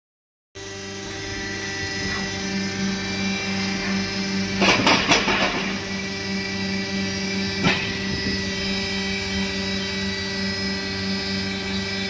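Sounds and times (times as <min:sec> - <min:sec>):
electric machinery hum: 0:00.6 - 0:12.0.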